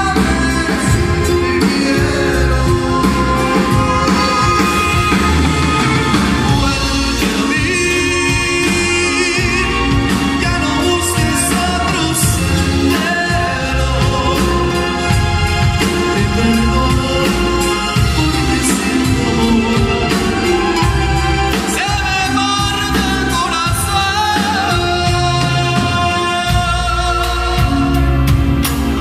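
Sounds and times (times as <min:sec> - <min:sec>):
band playing: 0:00.0 - 0:29.0
person singing: 0:00.0 - 0:29.0.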